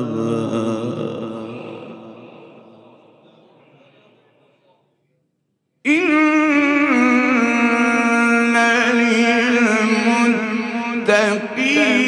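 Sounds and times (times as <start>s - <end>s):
man chanting melodic recitation: 0.0s - 4.0s, 5.9s - 12.0s.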